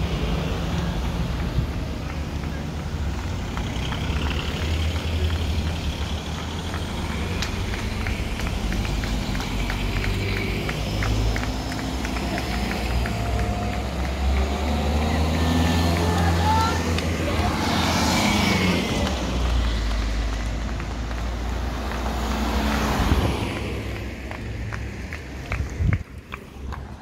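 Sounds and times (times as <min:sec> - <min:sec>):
car engines humming: 0:00.0 - 0:27.0.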